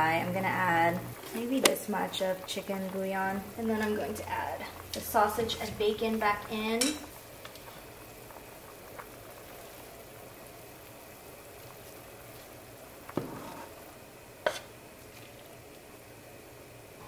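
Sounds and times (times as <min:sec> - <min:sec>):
soup bubbling in a pot: 0:00.0 - 0:17.0.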